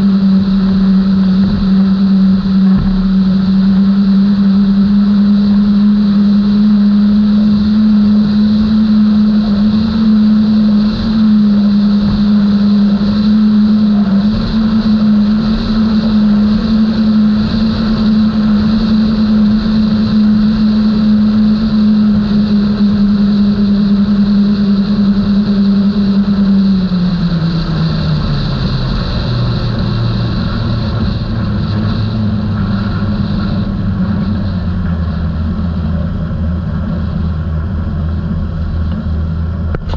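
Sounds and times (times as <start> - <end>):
outboard engines running: 0.0 - 39.9
rush of wind and water: 0.0 - 39.9.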